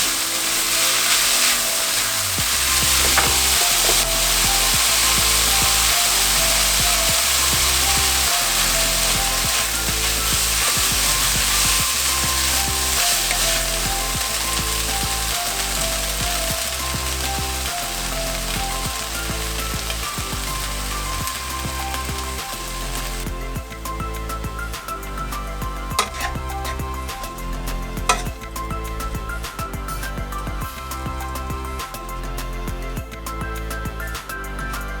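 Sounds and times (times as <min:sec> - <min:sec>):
food sizzling in frying pan: 0:00.0 - 0:34.8
background music with bass line: 0:00.0 - 0:35.0.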